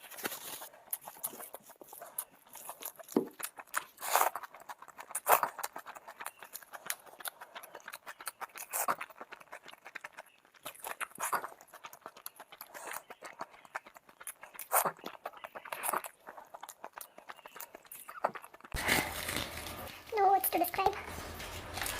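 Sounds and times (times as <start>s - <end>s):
person chewing food: 0.0s - 21.9s.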